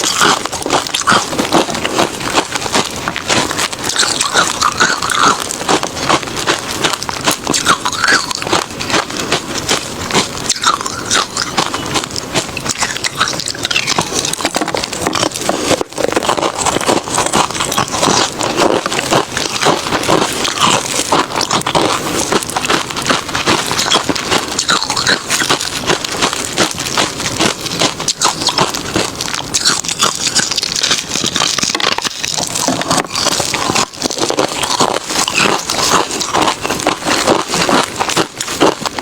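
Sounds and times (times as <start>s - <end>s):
crushed ice crunching: 0.0s - 39.0s.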